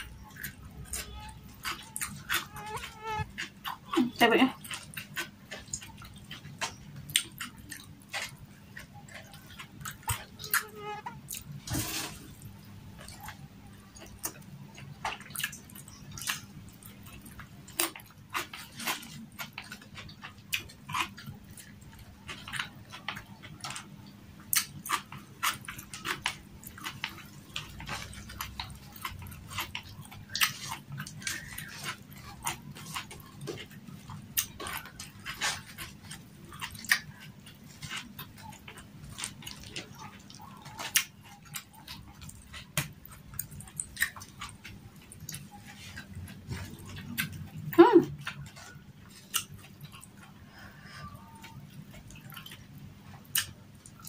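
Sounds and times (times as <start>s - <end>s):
faint low hum: 0.0s - 54.0s
person chewing food: 0.0s - 54.0s.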